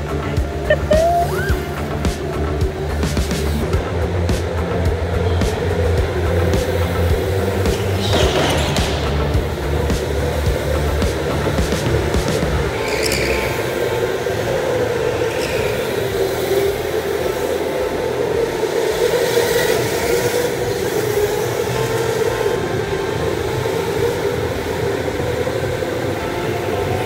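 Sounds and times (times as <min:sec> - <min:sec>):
electric go-karts humming: 0:00.0 - 0:27.0
tyre and hall noise: 0:00.0 - 0:27.0.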